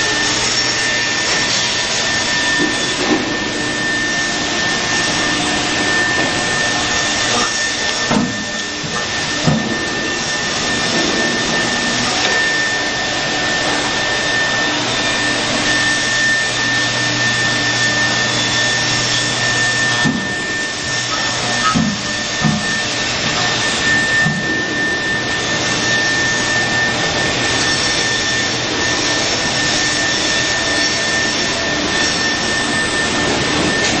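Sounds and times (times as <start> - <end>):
constant mechanical noise: 0.0 - 34.0
router spindle whine: 0.0 - 34.0.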